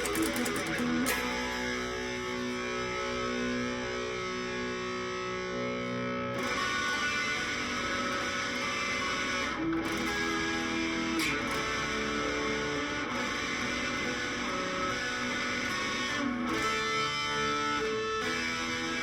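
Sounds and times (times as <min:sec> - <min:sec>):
overdriven electric guitar chords: 0:00.0 - 0:19.0.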